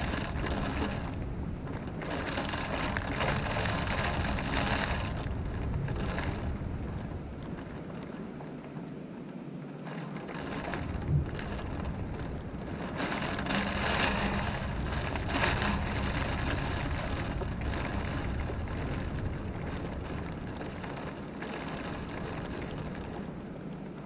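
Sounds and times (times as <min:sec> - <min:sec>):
rain beating on a window: 0:00.0 - 0:24.0.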